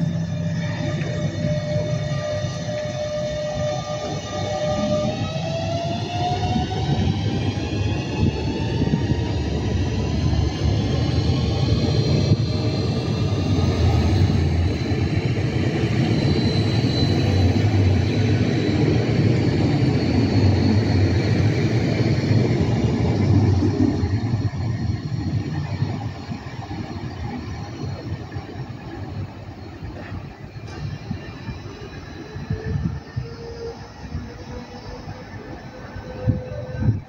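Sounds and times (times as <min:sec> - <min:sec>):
high train whine: 0:00.0 - 0:37.0
train wheels rumbling on track: 0:00.0 - 0:37.0.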